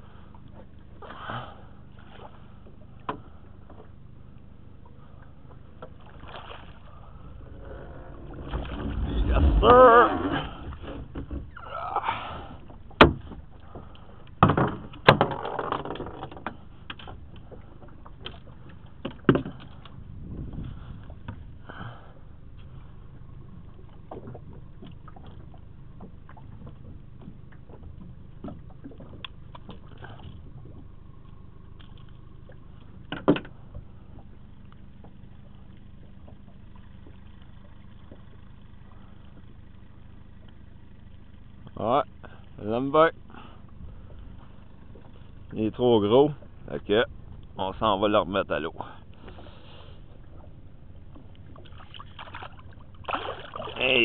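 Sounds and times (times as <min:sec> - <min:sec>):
knocks and clunks in a boat: 0:00.0 - 0:54.0
low steady hum: 0:00.0 - 0:54.0.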